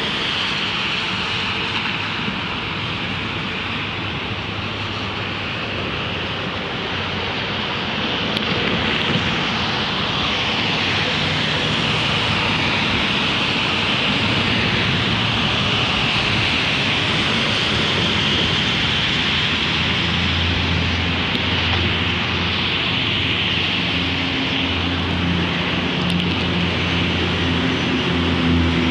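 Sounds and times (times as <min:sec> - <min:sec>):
freeway tyre hiss: 0:00.0 - 0:28.9
low engine drone: 0:00.0 - 0:28.9.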